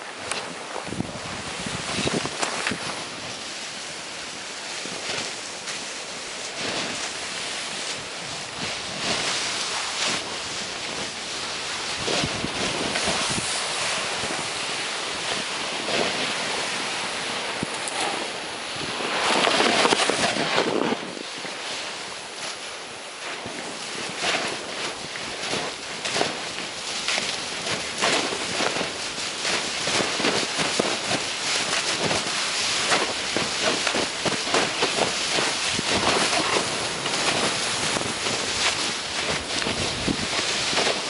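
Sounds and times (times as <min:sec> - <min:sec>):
skis sliding through powder snow: 0:00.0 - 0:41.0
wind on microphone: 0:00.0 - 0:41.0.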